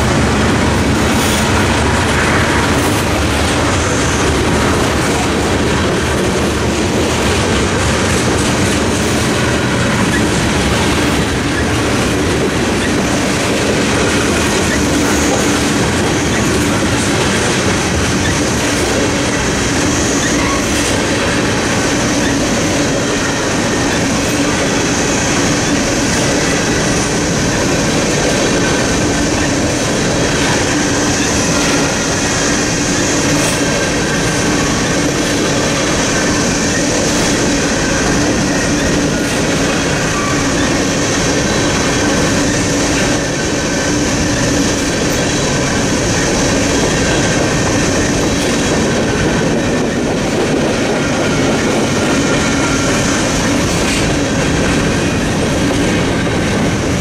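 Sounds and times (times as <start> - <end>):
freight train rumbling past: 0.0 - 57.0
wheels clattering on rails: 0.0 - 57.0.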